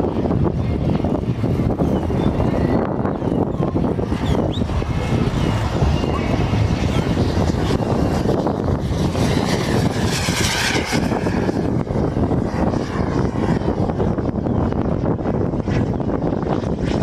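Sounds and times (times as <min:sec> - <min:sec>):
model jet plane engine whine: 0:00.0 - 0:17.0
steady rushing noise: 0:00.0 - 0:17.0.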